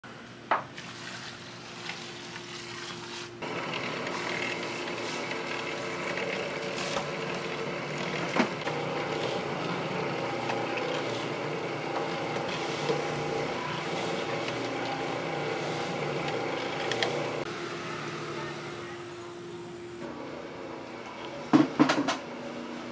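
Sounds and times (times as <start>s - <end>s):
dough mixer motor humming: 3.4s - 22.9s.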